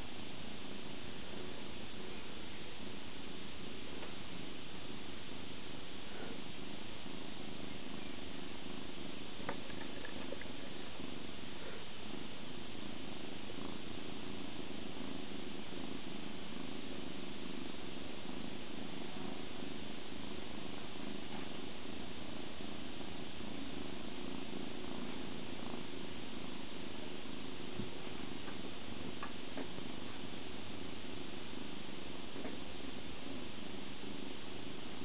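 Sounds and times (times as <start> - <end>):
kitten purring: 6.0 - 35.0.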